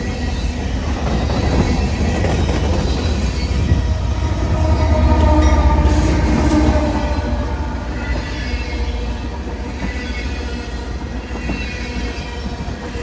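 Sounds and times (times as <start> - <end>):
ringing metallic whine: 0.0 - 12.4
train wheels rumbling on rails: 0.0 - 13.0.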